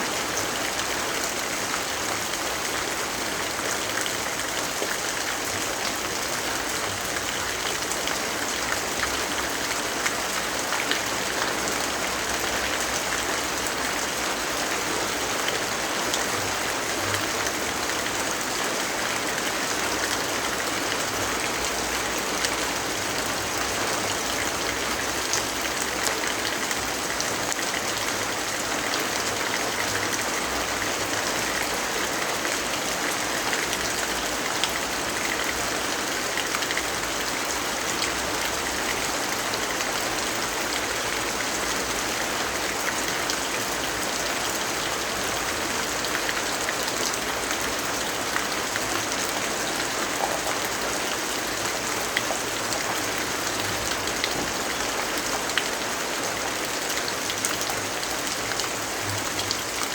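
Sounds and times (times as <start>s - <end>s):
small ticks of raindrops: 0.2s - 59.9s.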